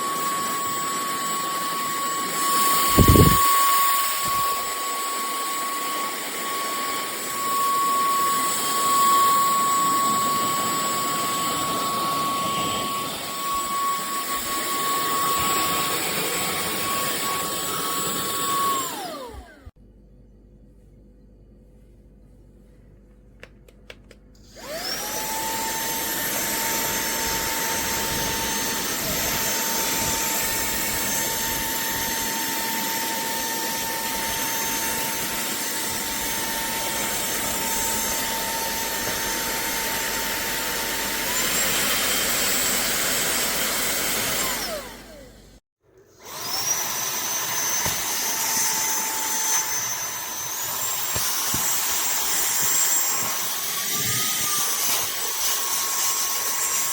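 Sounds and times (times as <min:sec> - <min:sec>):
handheld vacuum cleaner whine: 0:00.0 - 0:19.8, 0:24.4 - 0:56.9.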